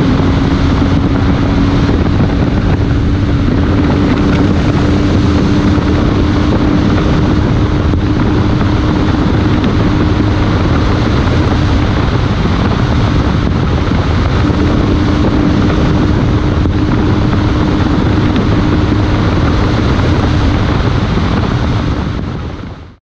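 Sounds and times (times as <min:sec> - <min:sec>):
steady low hum: 0:00.0 - 0:22.2
motorcycle engine droning: 0:00.0 - 0:23.0
wind and road noise: 0:00.0 - 0:23.0.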